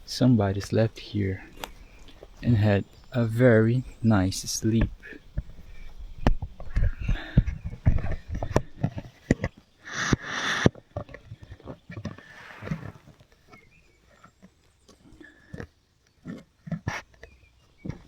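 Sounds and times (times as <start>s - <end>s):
rustling on forest floor: 0.0s - 17.9s.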